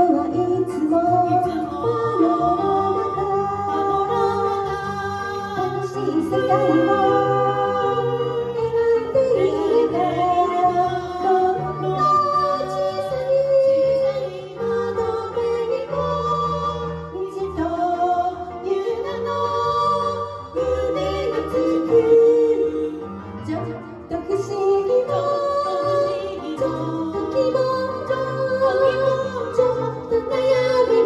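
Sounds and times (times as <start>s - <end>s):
karaoke backing track: 0.0s - 31.0s
women singing a duet: 0.0s - 31.0s.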